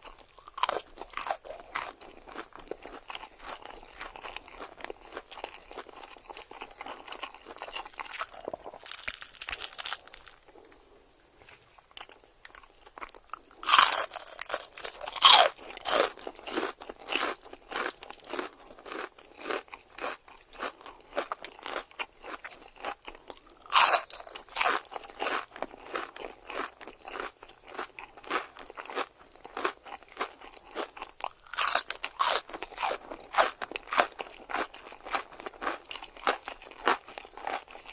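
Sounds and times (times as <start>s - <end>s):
loud crunchy bites: 0.0s - 10.7s, 12.0s - 37.9s
crunchy food chewing: 0.0s - 10.9s, 11.8s - 37.9s.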